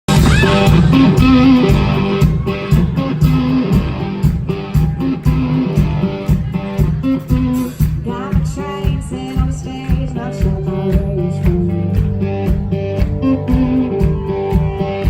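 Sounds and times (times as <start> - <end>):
bass: 0.0 - 15.0
electric guitar riff: 0.1 - 15.0
steady drum beat: 0.1 - 15.0.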